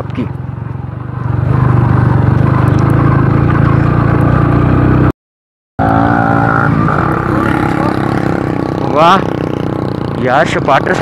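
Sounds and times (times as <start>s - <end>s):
motorcycle engine running: 0.0s - 5.1s, 5.8s - 11.0s.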